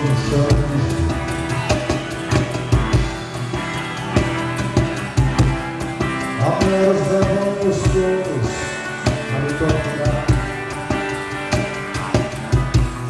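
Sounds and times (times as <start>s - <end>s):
drum beat: 0.0s - 13.0s.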